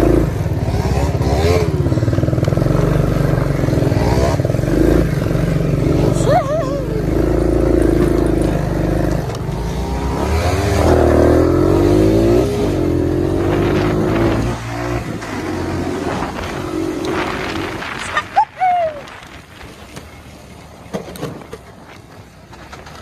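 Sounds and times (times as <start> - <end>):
atv engine revving: 0.0 - 20.2.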